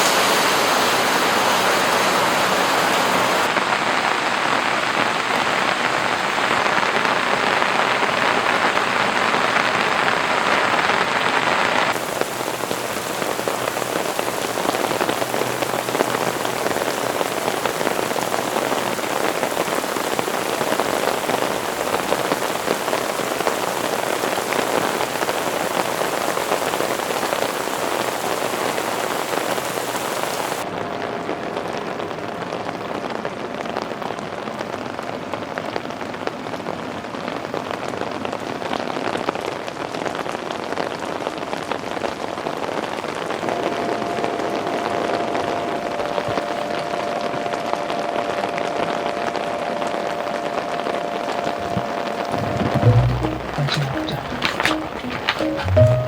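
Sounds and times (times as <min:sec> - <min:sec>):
heavy rain on a tent: 0:00.0 - 0:56.0.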